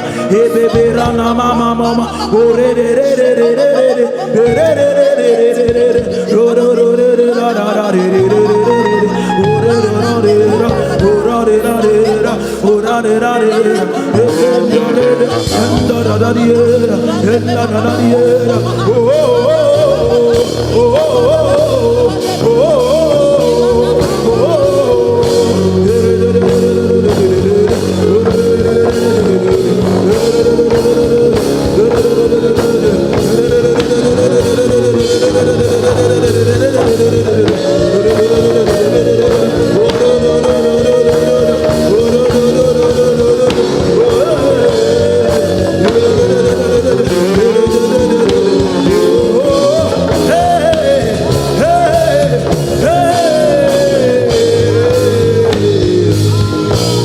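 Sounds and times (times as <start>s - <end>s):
person singing: 0.0s - 57.0s
worship band with drums and bass: 0.0s - 57.0s.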